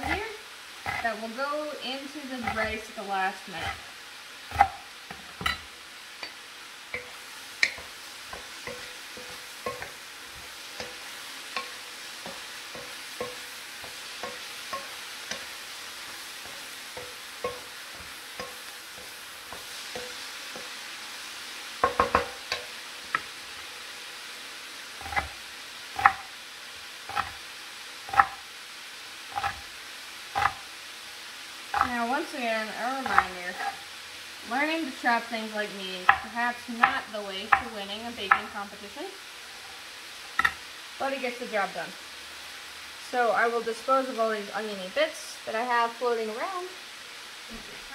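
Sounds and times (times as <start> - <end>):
vegetables sizzling in a frying pan: 0.0 - 47.9.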